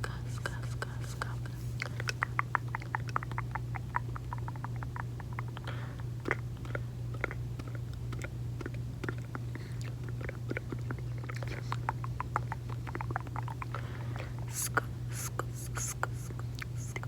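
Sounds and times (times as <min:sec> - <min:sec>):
gum chewing mouth sounds: 0:00.0 - 0:17.0
steady low hum: 0:00.0 - 0:17.0.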